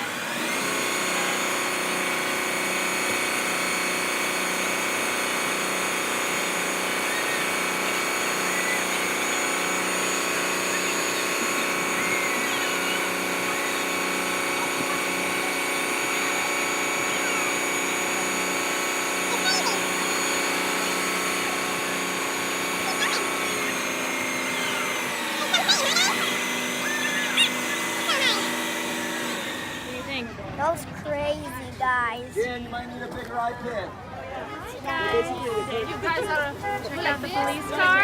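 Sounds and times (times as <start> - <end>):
engine-driven machine running: 0.0 - 34.2.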